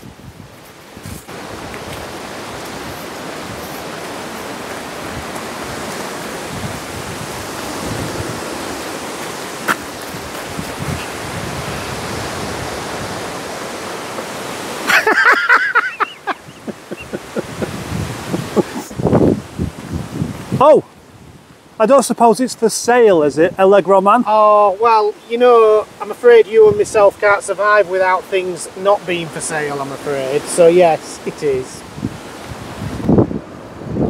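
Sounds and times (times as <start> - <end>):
wind hissing on microphone: 0.0 - 15.1, 15.7 - 23.7, 25.1 - 34.0.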